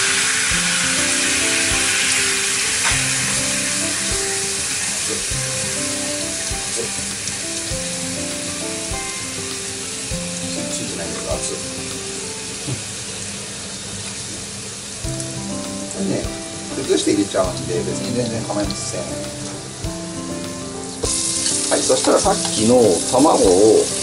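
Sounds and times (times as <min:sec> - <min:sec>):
fish sizzling in a frying pan: 0:00.0 - 0:24.0.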